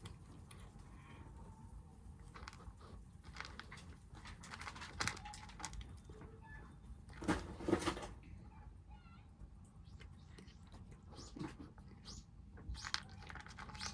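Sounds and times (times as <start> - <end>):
kittens eating from a dish: 0.0 - 8.3, 9.6 - 13.9.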